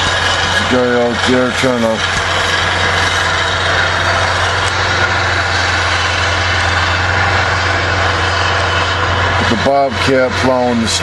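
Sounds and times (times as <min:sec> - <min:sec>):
skid-steer loader engine running: 0:00.0 - 0:11.0.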